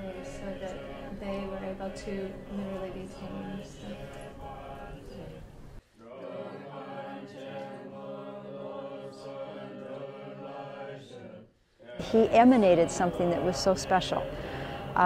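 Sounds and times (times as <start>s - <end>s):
group chanting prayers in unison: 0.0s - 15.0s.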